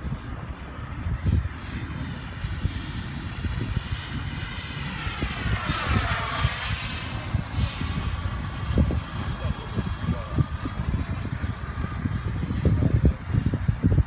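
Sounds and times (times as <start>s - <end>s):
jet engines roaring past: 0.0s - 14.0s
wind buffeting microphone: 0.0s - 14.0s.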